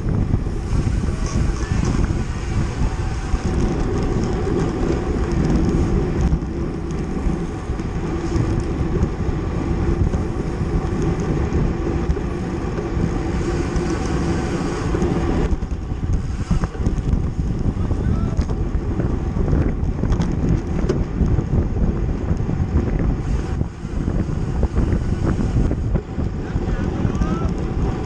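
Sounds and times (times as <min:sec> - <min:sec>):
constant hum: 0:00.0 - 0:28.0
wind buffeting microphone: 0:00.0 - 0:28.0.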